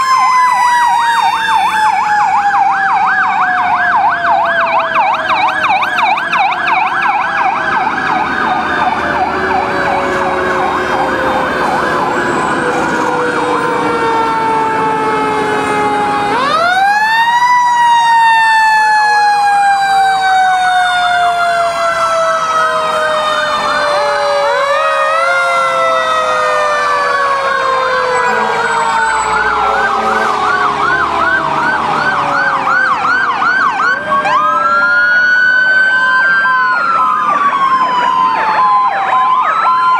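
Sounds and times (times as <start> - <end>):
electronic sirens yelping: 0.0 - 39.9.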